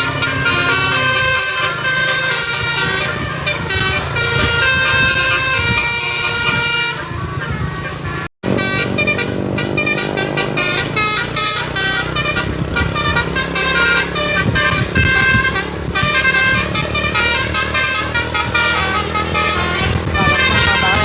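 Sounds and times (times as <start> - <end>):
low engine rumble: 0.0 - 21.0
musical air horn playing a tune: 0.0 - 21.0.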